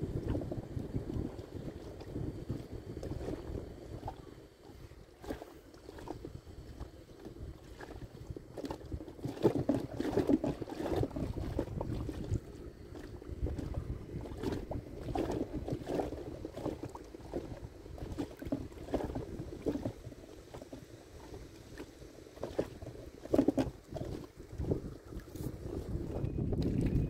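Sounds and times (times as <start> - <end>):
low wind rumble on microphone: 0.0 - 27.0
waves lapping against boat hull: 0.0 - 27.0.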